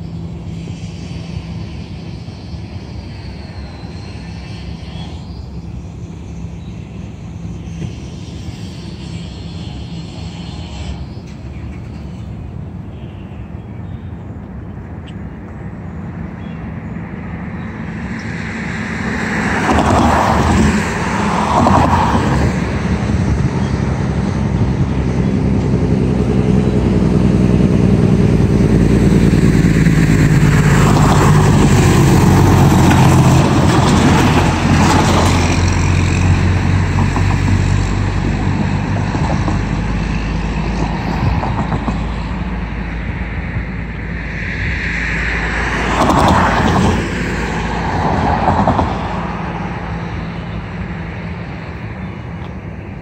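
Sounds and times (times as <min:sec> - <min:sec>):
diesel locomotive engine droning: 0:00.0 - 0:53.0.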